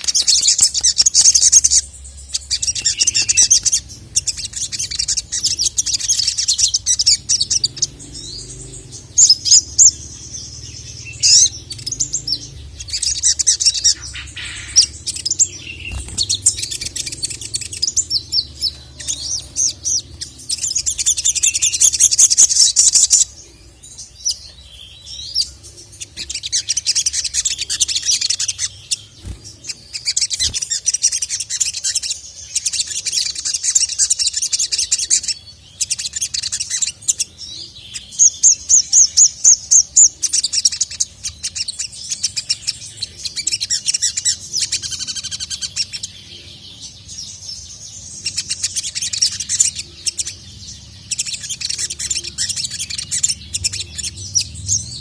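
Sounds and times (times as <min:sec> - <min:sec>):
sunbird chattering song: 0:00.0 - 0:55.0.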